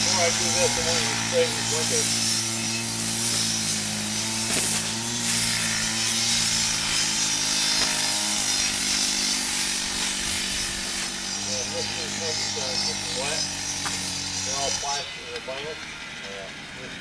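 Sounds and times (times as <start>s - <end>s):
water spraying onto concrete: 0.0s - 14.9s
spray rig engine running: 0.0s - 17.0s.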